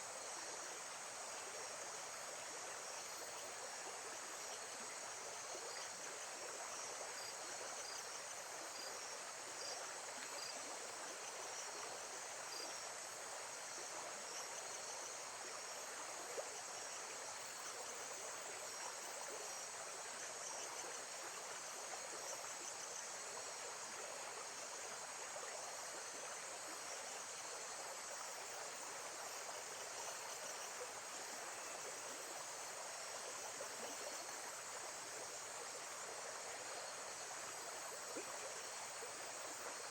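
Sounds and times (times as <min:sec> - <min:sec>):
insect chirps: 0:00.1 - 0:39.9.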